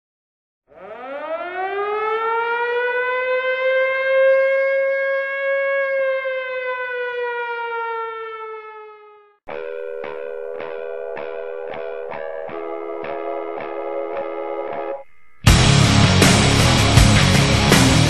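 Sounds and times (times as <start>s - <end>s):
warning siren wailing: 0.7s - 15.6s.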